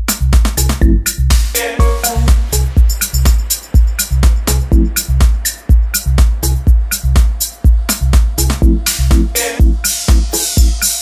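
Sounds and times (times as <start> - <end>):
kick drum: 0.0 - 11.0
techno music: 0.0 - 11.0.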